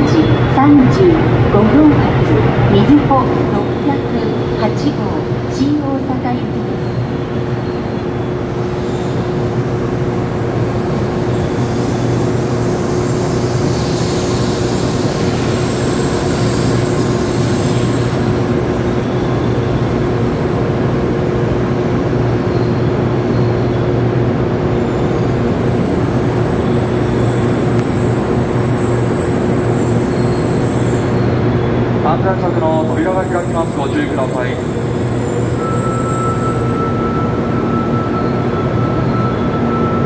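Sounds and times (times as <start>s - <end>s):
train rolling slowly: 0.0s - 40.0s.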